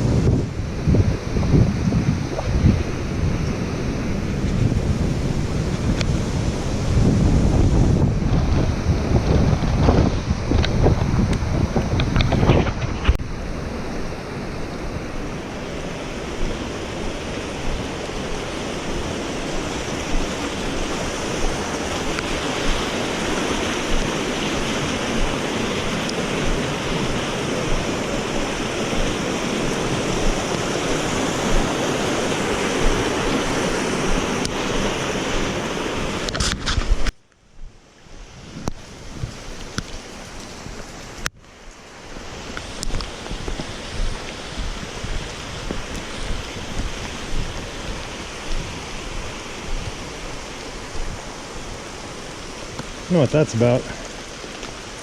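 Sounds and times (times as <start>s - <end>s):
wind buffeting microphone: 0.0s - 41.3s, 42.0s - 53.0s.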